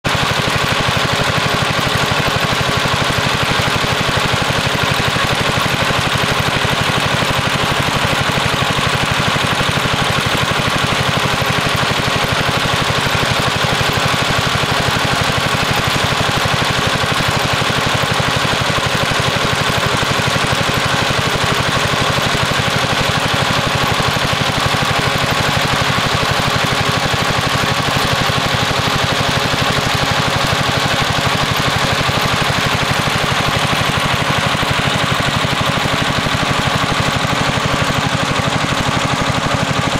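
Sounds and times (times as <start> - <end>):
gas engine running: 0.0 - 39.9.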